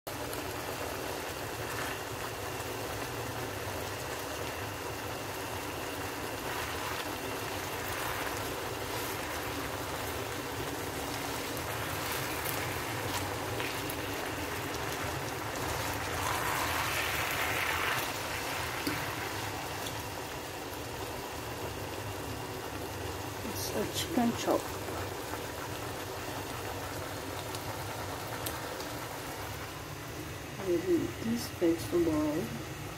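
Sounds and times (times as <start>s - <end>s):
chicken sizzling in a pan: 0.1s - 32.9s.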